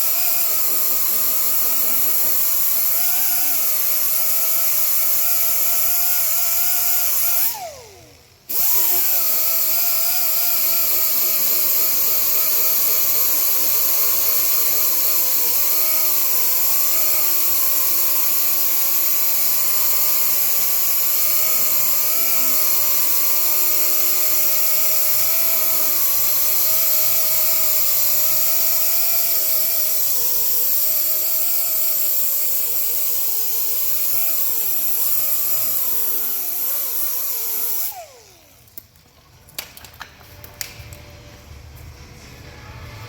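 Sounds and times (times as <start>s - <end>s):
power tool high whine: 0.0s - 38.8s.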